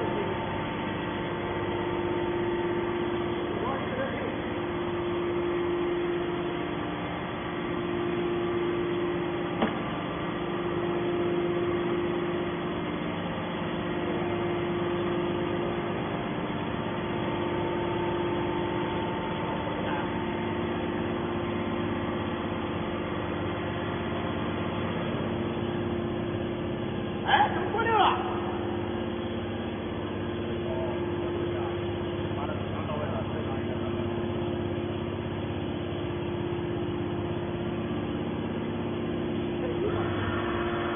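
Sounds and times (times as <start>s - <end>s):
hydraulic baler motor humming: 0.0s - 40.9s.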